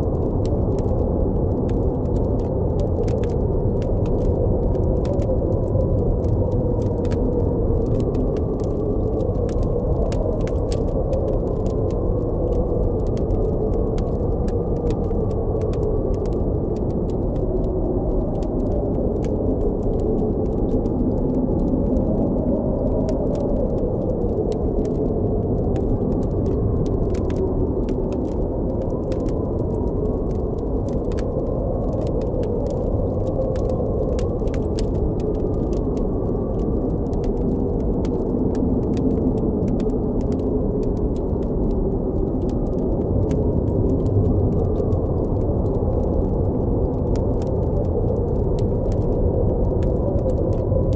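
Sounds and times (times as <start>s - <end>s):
campfire crackling: 0.0s - 50.9s
wind howling: 0.0s - 50.9s.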